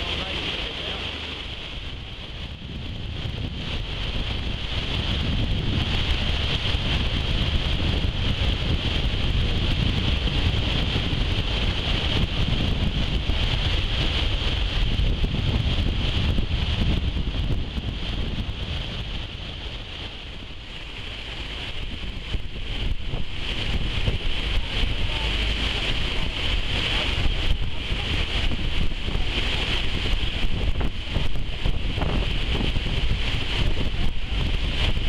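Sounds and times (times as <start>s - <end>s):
boat engine and water rushing: 0.0s - 35.0s
wind buffeting microphone: 0.0s - 35.0s.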